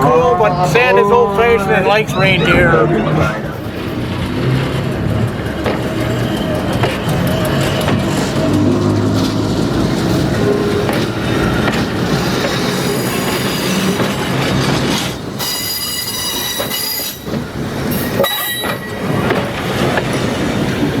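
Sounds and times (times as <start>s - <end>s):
railcar running on rails: 0.0s - 21.0s
steel wheels squealing: 2.0s - 19.8s.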